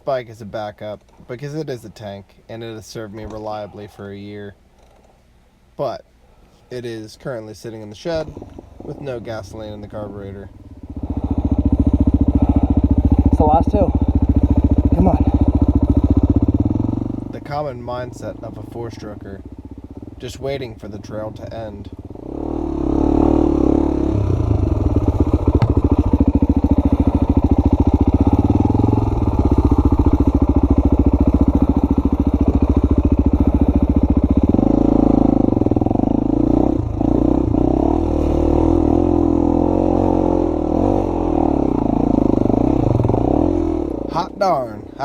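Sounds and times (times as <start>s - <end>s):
dirt bike engine chugging: 8.2s - 45.0s.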